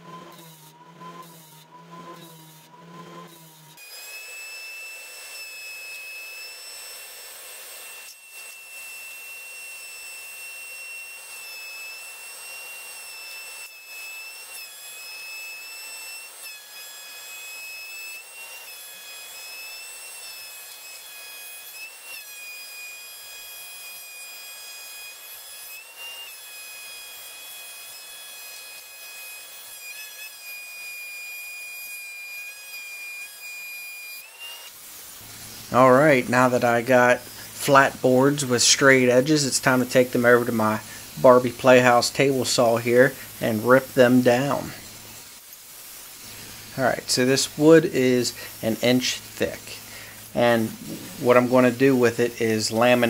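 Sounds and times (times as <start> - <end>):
thickness planer whining: 0.0 - 53.0.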